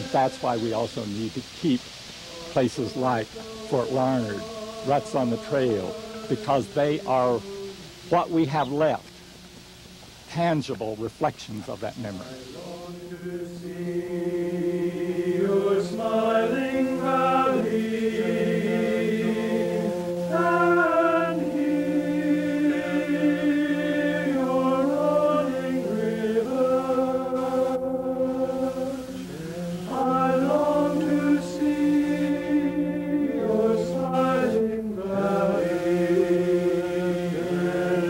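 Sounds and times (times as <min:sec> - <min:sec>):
slow music of held chords: 0:02.4 - 0:10.0, 0:12.5 - 0:38.0.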